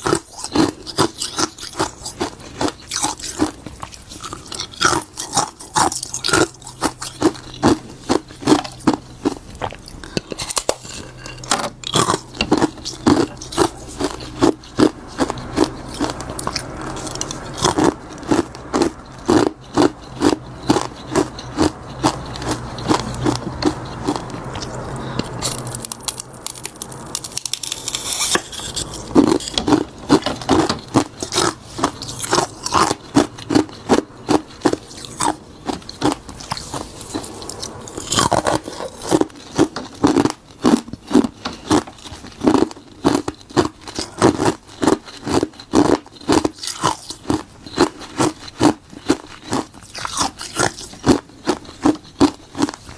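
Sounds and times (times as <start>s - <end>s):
crunching ice while chewing: 0.0s - 52.9s.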